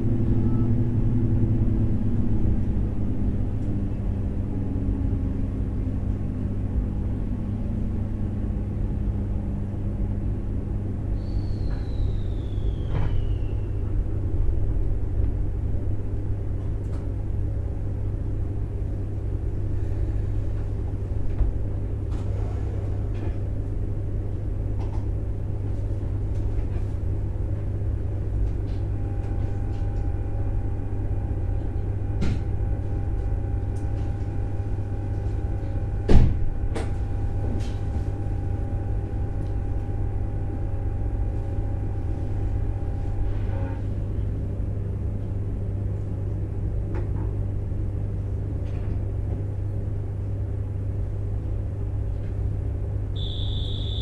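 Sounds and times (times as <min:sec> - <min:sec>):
steady train whine: 0:00.0 - 0:54.0.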